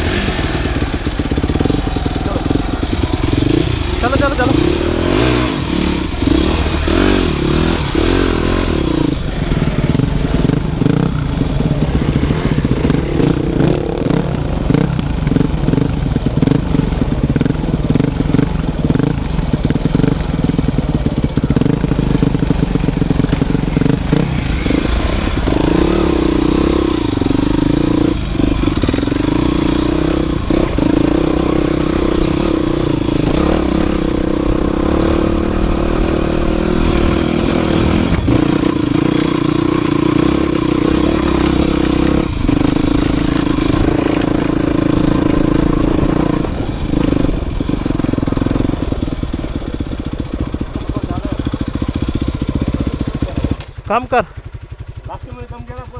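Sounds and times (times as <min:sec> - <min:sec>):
dirt bike engine: 0:00.0 - 0:55.9.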